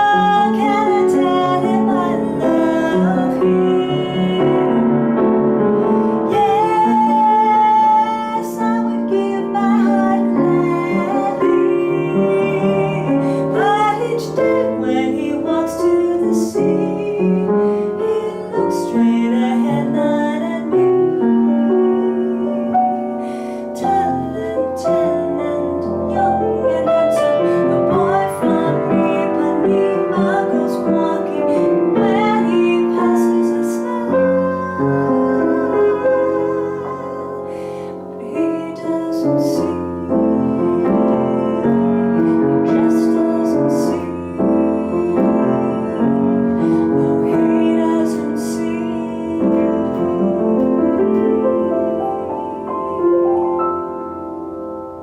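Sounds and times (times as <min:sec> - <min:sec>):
woman singing: 0:00.0 - 0:54.1
bossa nova piano: 0:00.0 - 0:55.0.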